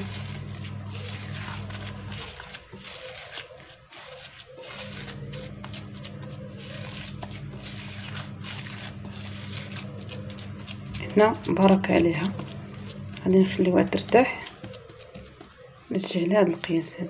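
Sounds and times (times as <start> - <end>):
hand kneading gritty dough: 0.0 - 17.0
low steady hum: 0.0 - 17.0.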